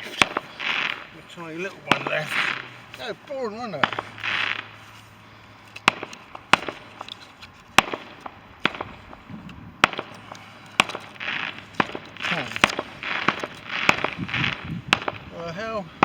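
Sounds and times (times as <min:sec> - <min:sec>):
firework bangs: 0:00.0 - 0:05.0, 0:05.8 - 0:07.1, 0:07.8 - 0:15.5
firework hiss: 0:00.0 - 0:07.1, 0:07.8 - 0:15.8.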